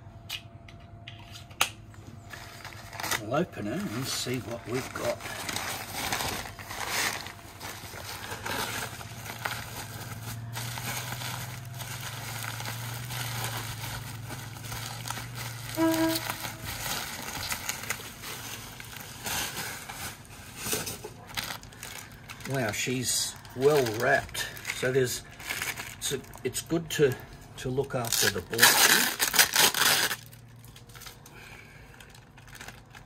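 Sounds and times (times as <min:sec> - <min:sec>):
steady low hum: 0:00.0 - 0:33.0
bubble wrap rustling: 0:02.2 - 0:33.0.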